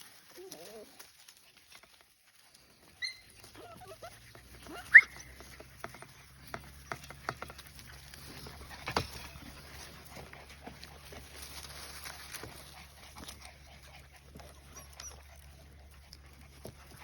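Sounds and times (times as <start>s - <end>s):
puppies squeaking and yelping: 2.7s - 17.0s.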